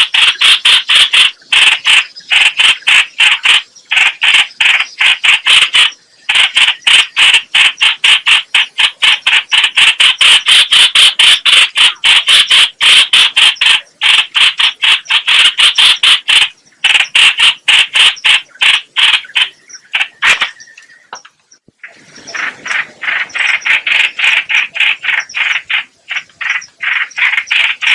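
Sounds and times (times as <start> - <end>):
bird harsh chattering call: 0.0 - 27.9.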